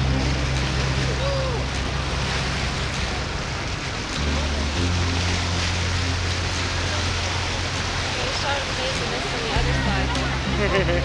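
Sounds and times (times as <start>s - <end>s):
boat engine droning: 0.0s - 11.0s
water churning along hull: 0.0s - 11.0s.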